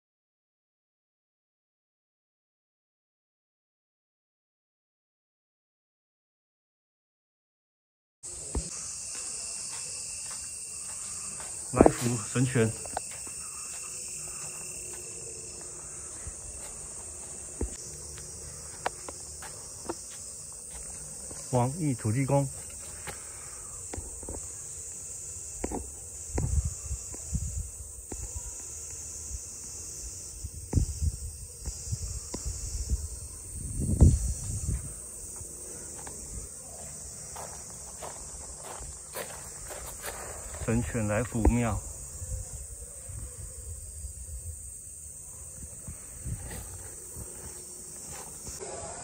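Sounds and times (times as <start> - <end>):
insects chorus: 8.2 - 49.0.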